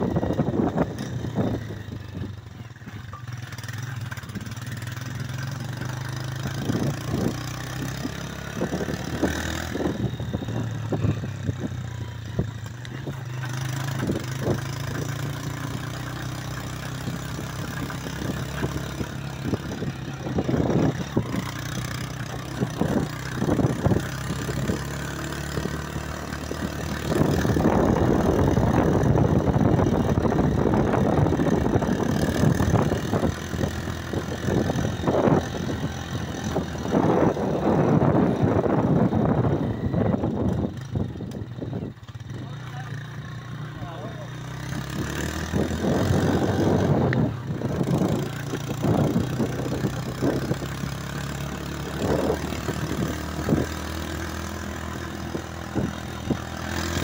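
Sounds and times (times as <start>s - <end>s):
small motorcycle engine: 0.0s - 57.0s.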